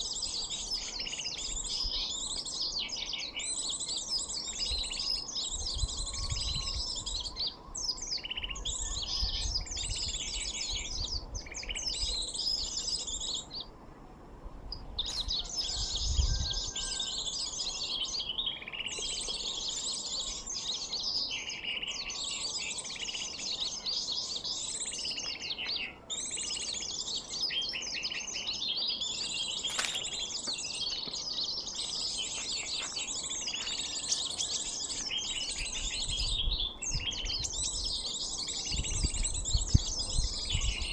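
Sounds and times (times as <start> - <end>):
small birds twittering: 0.0 - 13.8, 14.6 - 40.9.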